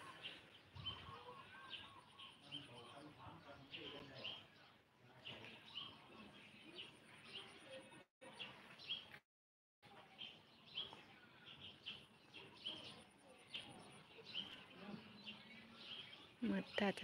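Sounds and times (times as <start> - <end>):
faint bird chirping: 0.0 - 9.2, 9.9 - 17.0.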